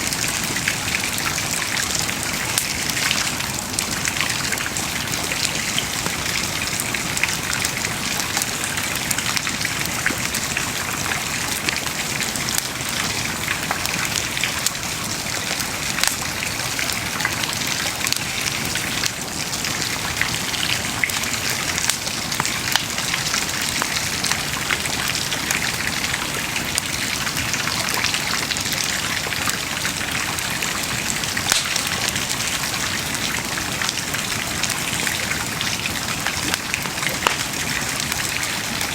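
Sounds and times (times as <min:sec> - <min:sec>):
bonfire crackling and hissing: 0:00.0 - 0:38.9.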